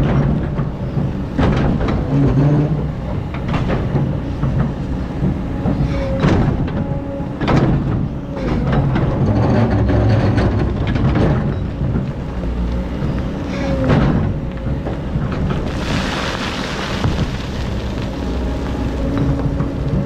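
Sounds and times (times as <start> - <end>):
excavator diesel engine rumble: 0.0 - 20.0.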